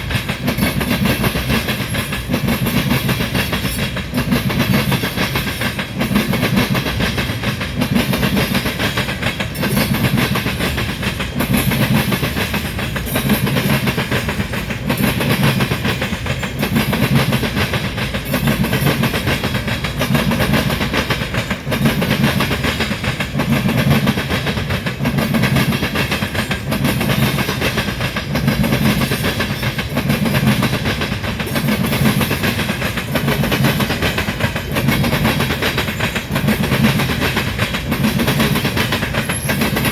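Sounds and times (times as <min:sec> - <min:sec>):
freight train rumbling past: 0:00.0 - 0:39.9
rhythmic clacks at rail joints: 0:00.0 - 0:39.9.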